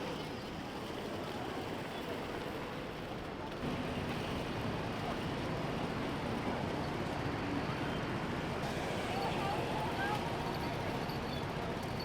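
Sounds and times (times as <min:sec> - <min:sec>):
traffic: 0:00.0 - 0:12.0
urban noise: 0:00.0 - 0:12.0.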